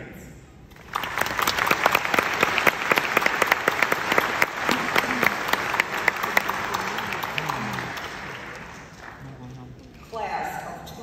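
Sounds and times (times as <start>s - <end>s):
audience applauding: 0.8s - 9.8s.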